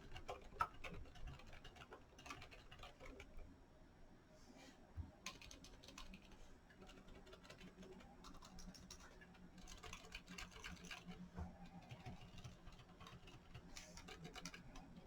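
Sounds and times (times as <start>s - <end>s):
typing on mechanical keyboard: 0.0s - 3.3s, 5.3s - 15.0s.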